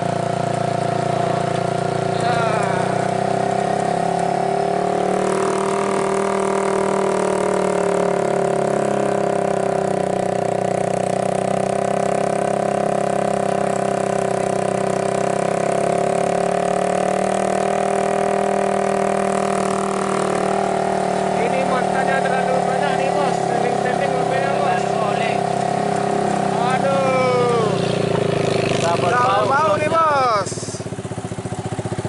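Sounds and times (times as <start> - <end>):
diesel truck engine labouring: 0.0 - 32.0.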